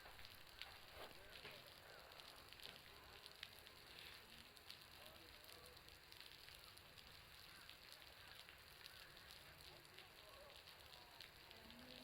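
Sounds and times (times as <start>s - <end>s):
water drops pattering: 0.0s - 12.0s.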